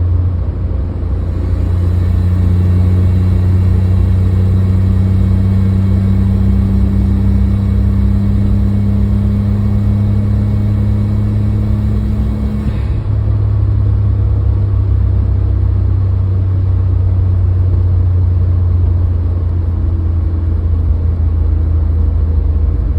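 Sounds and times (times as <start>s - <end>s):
car engine droning under load: 0.0s - 22.9s
faint turbo whine: 0.0s - 22.9s.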